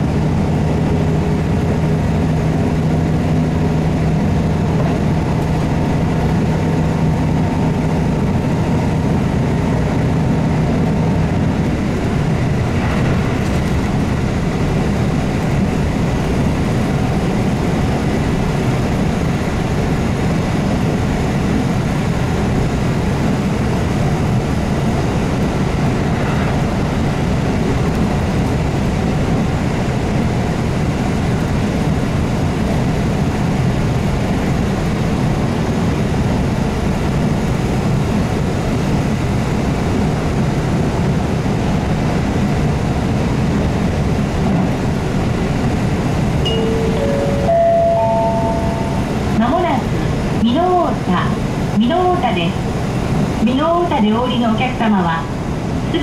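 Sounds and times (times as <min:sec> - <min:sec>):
diesel engine droning: 0:00.0 - 0:56.0
train wheels rumbling on rail: 0:00.0 - 0:56.0.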